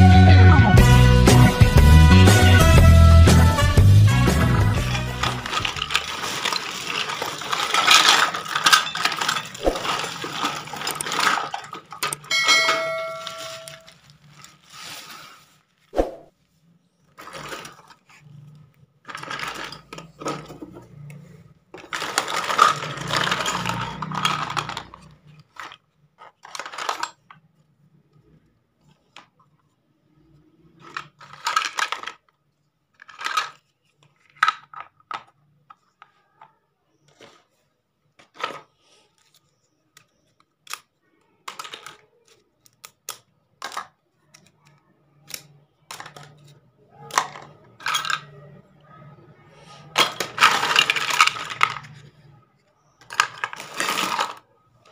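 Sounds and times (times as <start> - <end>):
plastic toy pieces clattering: 4.4 - 15.6, 17.0 - 54.9.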